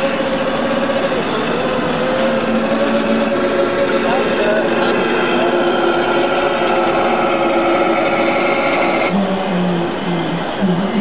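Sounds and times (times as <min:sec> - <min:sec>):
model tractor mechanical hum: 0:00.0 - 0:09.1
high steady whine: 0:00.0 - 0:11.0.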